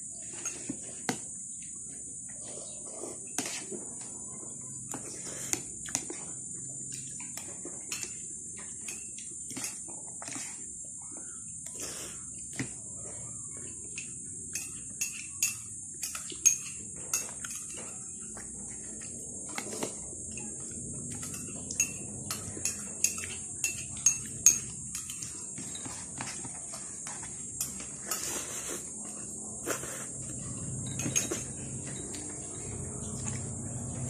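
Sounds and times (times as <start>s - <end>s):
insect drone: 0.0s - 34.0s
fingers and food clinking on plate: 3.3s - 10.6s, 12.4s - 34.0s.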